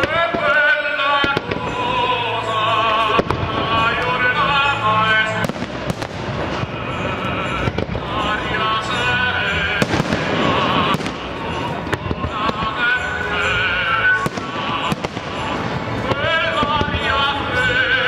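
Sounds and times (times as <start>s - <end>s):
fireworks bangs: 0.0s - 2.3s, 2.9s - 18.0s
song with vibrato singer: 0.0s - 18.0s.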